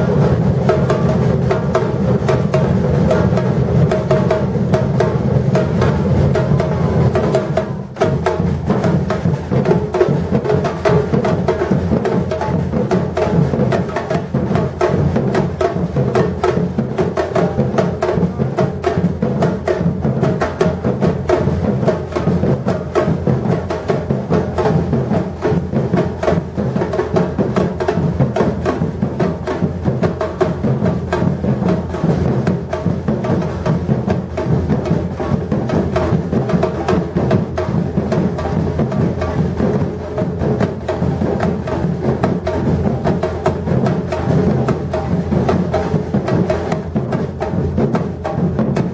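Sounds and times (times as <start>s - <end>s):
fast snare and hand drums: 0.0s - 48.9s.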